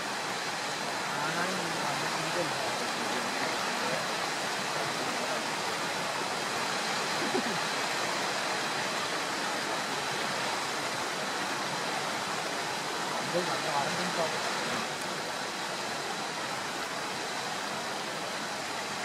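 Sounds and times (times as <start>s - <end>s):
waterfall rushing down rock: 0.0s - 19.0s.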